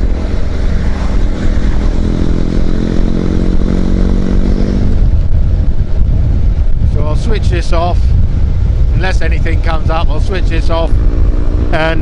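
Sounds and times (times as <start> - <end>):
motorcycle engine: 0.0 - 7.0, 8.0 - 12.0
wind and road noise: 0.0 - 12.0.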